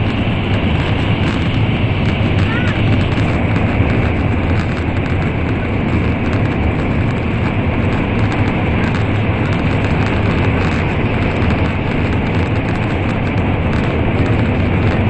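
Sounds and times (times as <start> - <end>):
rushing air: 0.0 - 15.0
train wheels rumbling on rails: 0.0 - 15.0.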